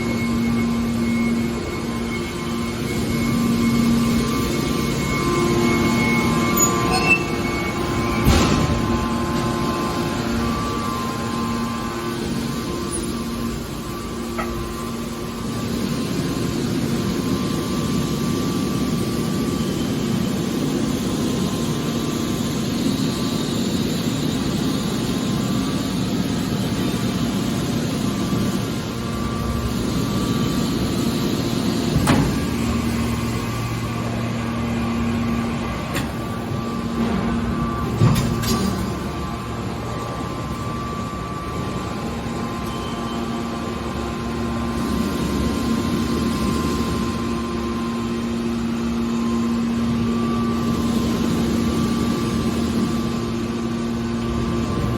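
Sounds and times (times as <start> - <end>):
hydraulic baler humming and whining: 0.0 - 54.9.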